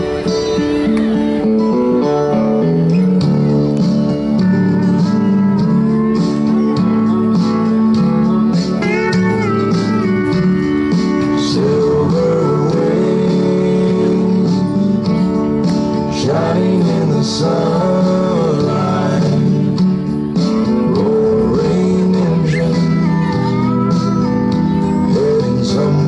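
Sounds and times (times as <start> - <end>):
country music with singing: 0.0 - 26.0
sliding steel guitar notes: 0.0 - 26.0.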